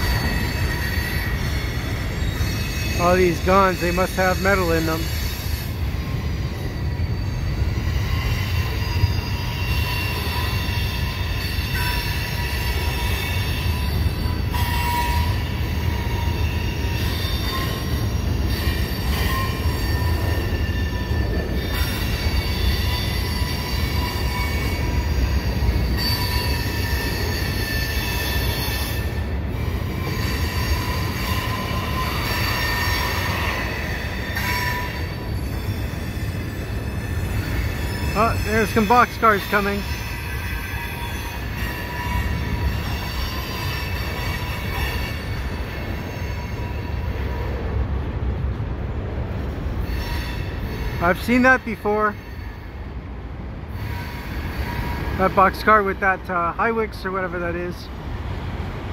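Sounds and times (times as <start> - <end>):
shrill wheel squeal: 0.0 - 48.5, 49.4 - 53.0, 53.7 - 56.0
train wheels rumbling on rail: 0.0 - 58.9.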